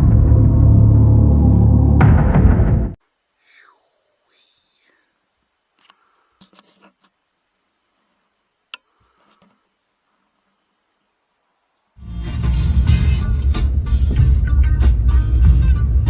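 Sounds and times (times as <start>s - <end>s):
crickets chirring: 3.0s - 16.0s.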